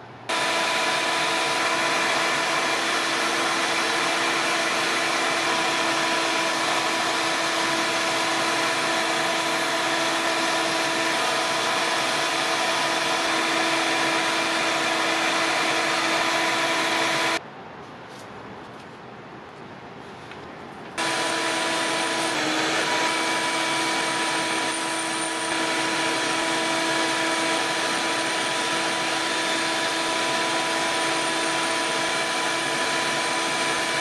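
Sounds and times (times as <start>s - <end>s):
rotary tool whining: 0.3s - 17.4s, 21.0s - 34.0s.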